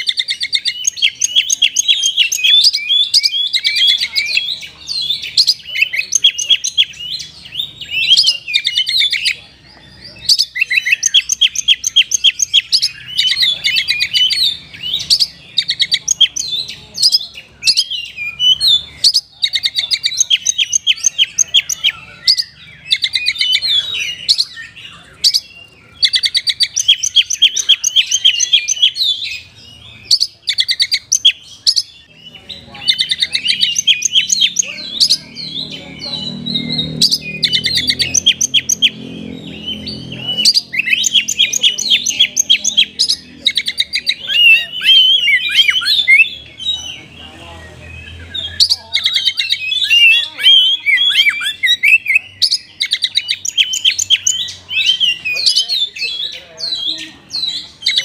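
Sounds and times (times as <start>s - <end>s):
magpie-robin singing fast trills: 0.0s - 58.0s.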